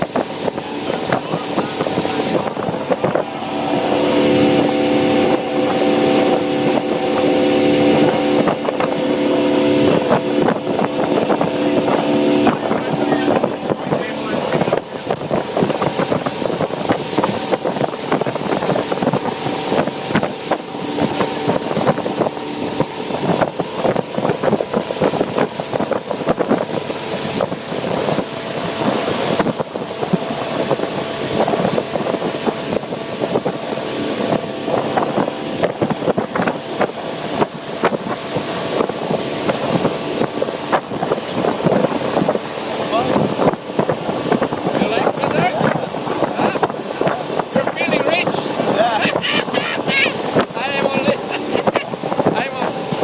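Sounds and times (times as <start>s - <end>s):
motorboat engine running: 0.0s - 53.0s
water rushing: 0.0s - 53.0s
wind buffeting microphone: 0.0s - 53.0s.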